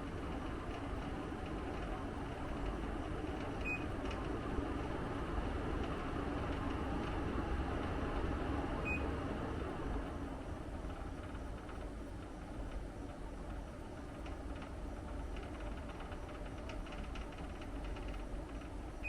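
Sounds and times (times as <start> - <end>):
air conditioner hum and airflow: 0.0 - 19.0.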